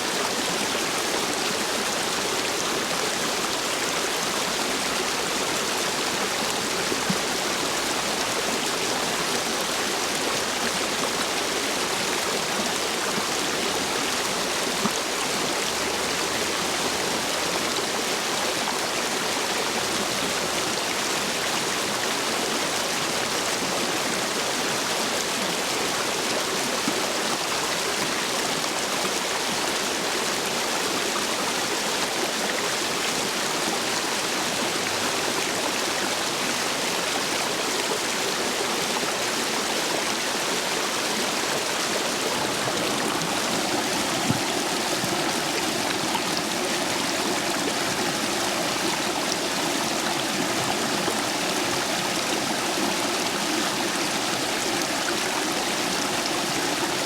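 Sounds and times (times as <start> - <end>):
stream water rushing over stones: 0.0 - 57.0.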